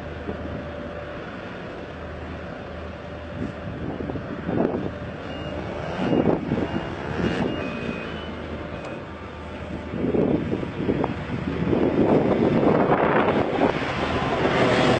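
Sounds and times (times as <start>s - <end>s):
low machinery hum: 0.0s - 14.9s
wind buffeting microphone: 0.0s - 14.9s.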